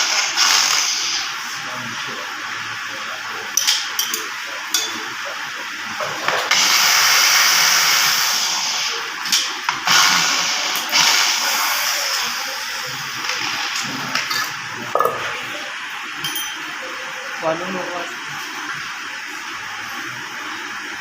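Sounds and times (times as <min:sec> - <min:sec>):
power tool running with hiss: 0:00.0 - 0:21.0.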